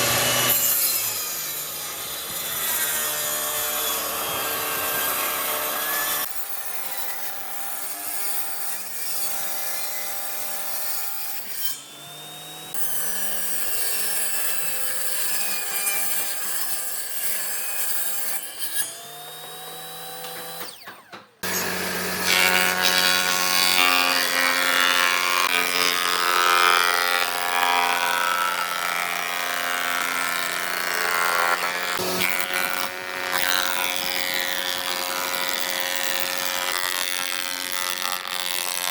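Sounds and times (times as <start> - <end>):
woodworking tool motor hum: 7.2 - 38.9.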